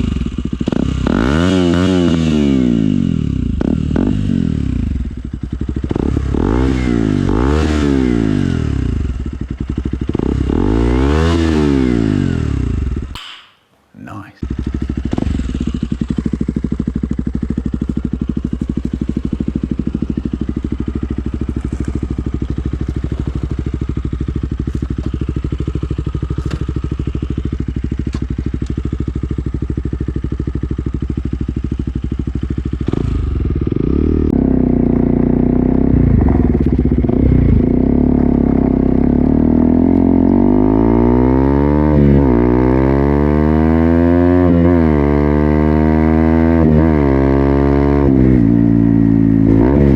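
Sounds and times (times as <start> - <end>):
motorcycle engine revving: 0.0 - 13.2, 14.4 - 49.9.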